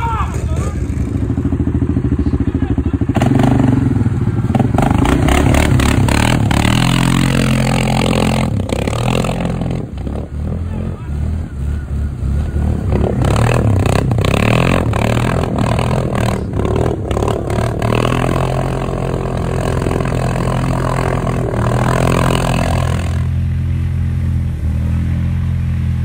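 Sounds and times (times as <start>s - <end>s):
quad engine revving: 0.0s - 26.0s.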